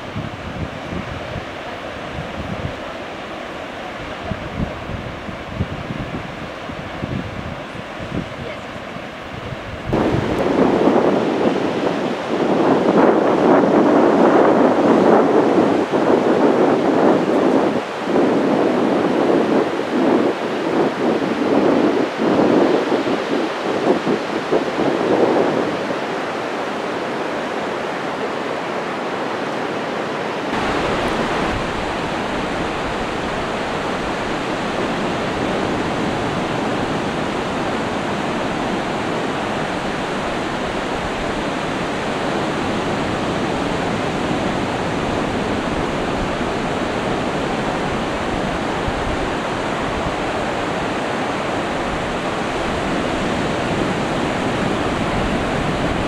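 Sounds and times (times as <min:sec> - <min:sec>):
surf breaking on a beach: 0:00.0 - 0:56.0.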